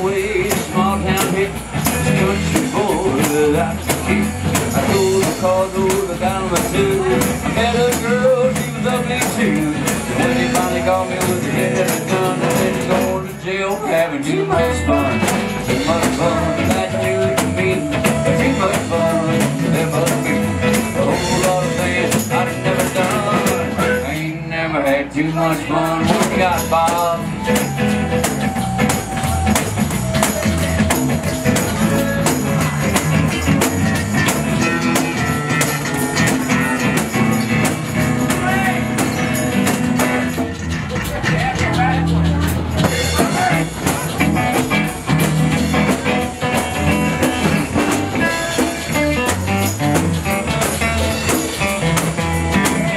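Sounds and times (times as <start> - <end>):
tambourine jingling: 0.0 - 24.2, 26.2 - 40.6, 41.2 - 52.9
acoustic guitar playing: 0.0 - 52.9.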